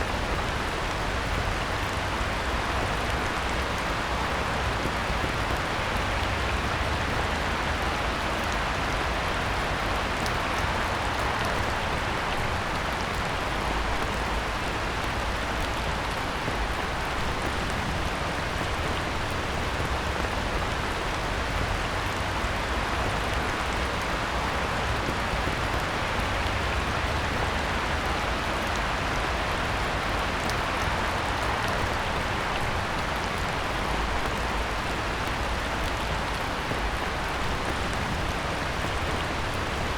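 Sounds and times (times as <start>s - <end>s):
heavy rain on water: 0.0s - 39.9s.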